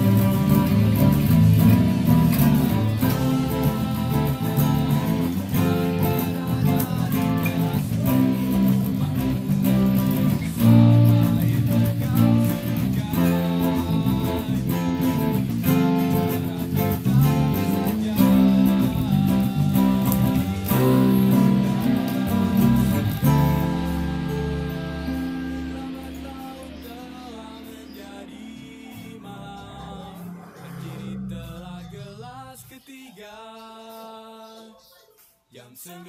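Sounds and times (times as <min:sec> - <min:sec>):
electric bass guitar: 0:00.0 - 0:32.7
acoustic guitars playing: 0:00.0 - 0:33.4.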